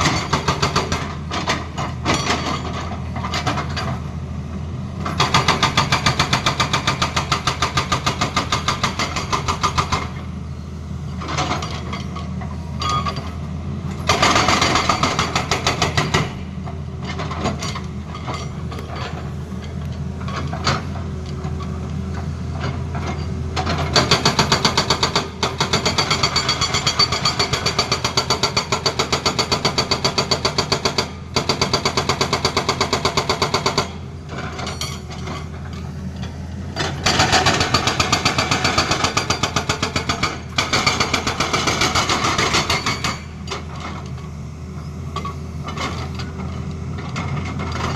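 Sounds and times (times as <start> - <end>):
hydraulic rock breaker hammering: 0.0 - 4.1, 5.0 - 10.3, 11.1 - 21.5, 22.2 - 44.2
excavator diesel engine: 0.0 - 47.9.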